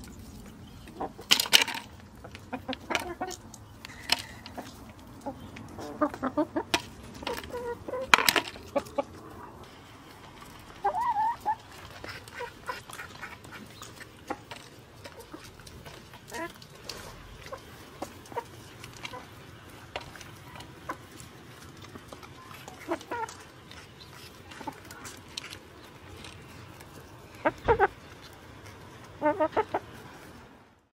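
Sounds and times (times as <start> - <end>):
beaks pecking on concrete: 0.0 - 30.6
hens clucking: 0.0 - 30.6.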